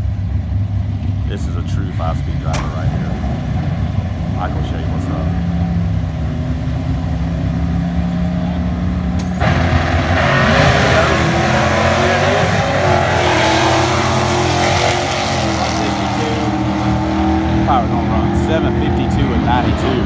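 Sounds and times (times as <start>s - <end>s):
drag car engine roaring: 0.0s - 20.0s.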